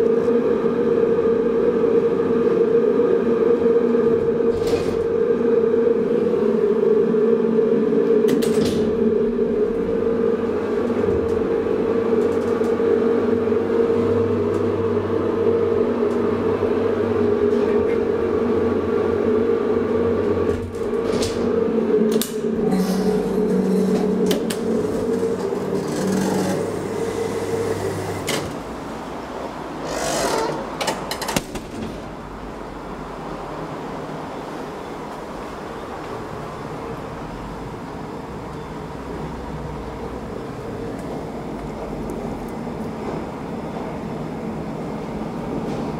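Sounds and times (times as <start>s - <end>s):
elevator mechanical hum: 0.0s - 45.9s.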